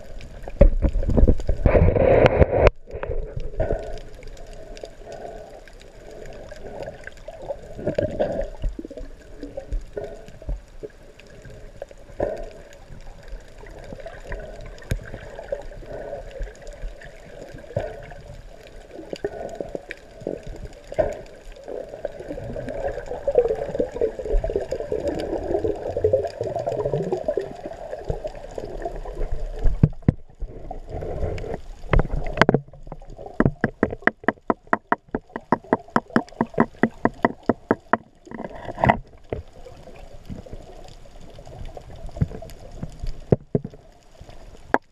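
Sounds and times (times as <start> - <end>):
muffled underwater gurgling: 0.0 - 44.9.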